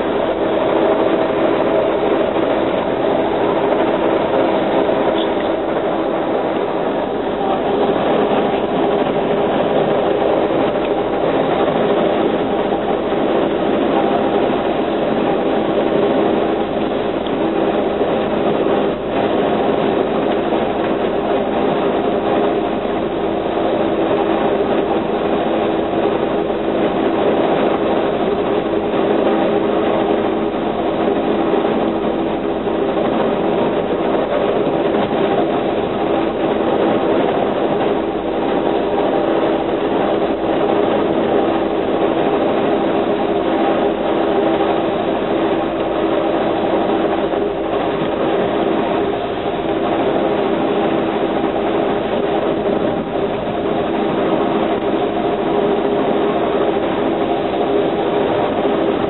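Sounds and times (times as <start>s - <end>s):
passenger train running noise: 0.0s - 59.0s.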